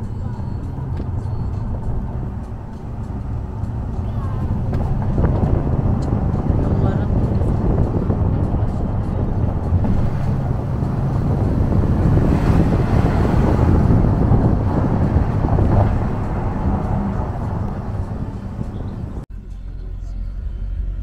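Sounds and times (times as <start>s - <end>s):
car engine hum and road rumble: 0.0s - 21.0s.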